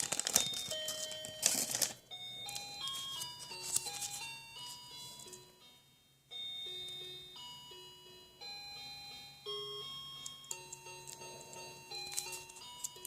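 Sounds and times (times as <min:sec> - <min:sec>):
electronic bell-like melody: 0:00.0 - 0:13.0.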